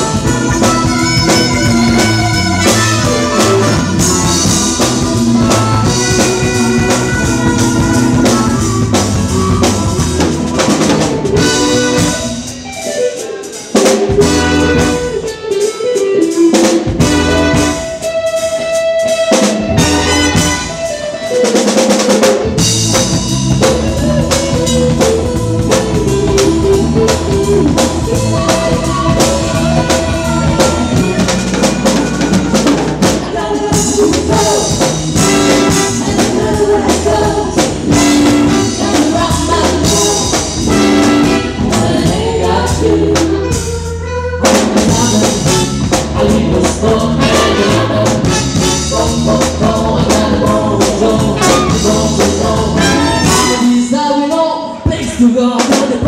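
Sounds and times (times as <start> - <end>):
brass section playing: 0.0 - 12.7, 14.0 - 15.5, 16.9 - 18.5, 19.5 - 21.3, 24.0 - 33.1, 34.0 - 54.0
drum kit steady beat: 0.0 - 54.0.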